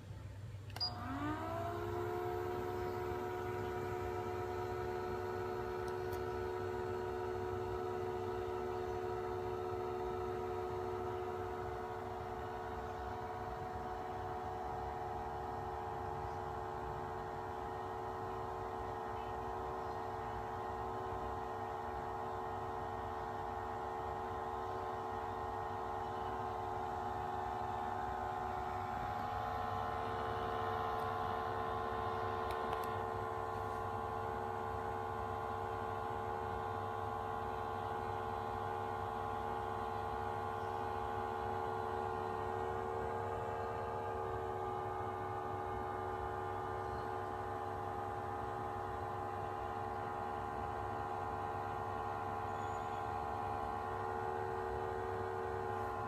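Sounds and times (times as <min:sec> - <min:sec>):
low hum: 0:00.0 - 0:56.0
massager whine: 0:00.0 - 0:56.0.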